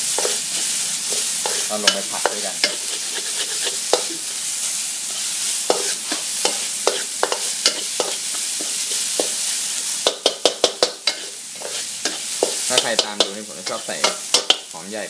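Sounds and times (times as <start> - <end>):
vegetables sizzling in a pan: 0.0 - 15.0
spatula scraping a pan: 0.1 - 4.3, 5.2 - 14.7.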